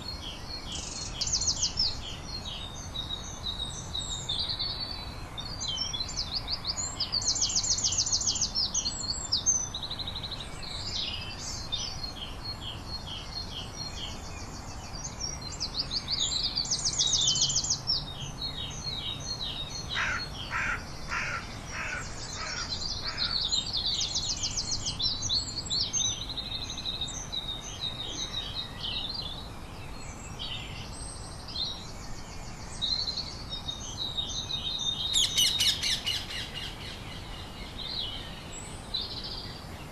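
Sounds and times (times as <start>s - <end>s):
songbirds singing high trills: 0.0s - 39.9s.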